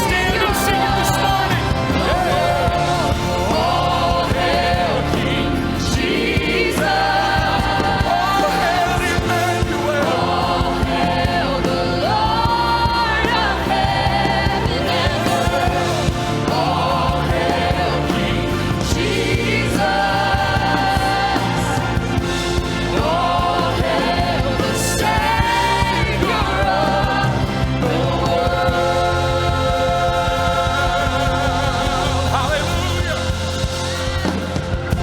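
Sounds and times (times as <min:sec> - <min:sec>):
bass and keyboards: 0:00.0 - 0:35.0
people singing sustained notes: 0:00.0 - 0:35.0.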